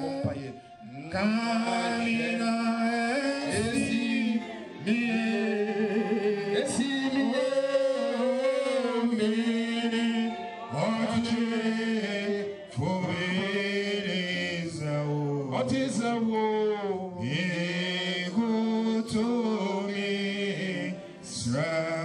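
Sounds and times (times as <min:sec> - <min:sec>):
voices singing worship song: 0:00.0 - 0:22.0.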